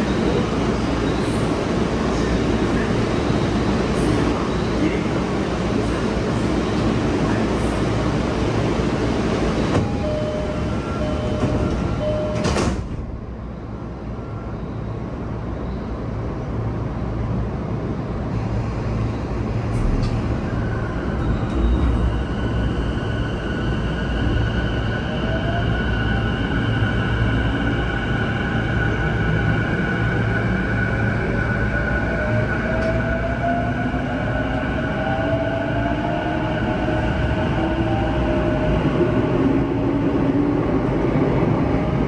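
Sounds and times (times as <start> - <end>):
train wheel-on-rail rumble: 0.0 - 42.0.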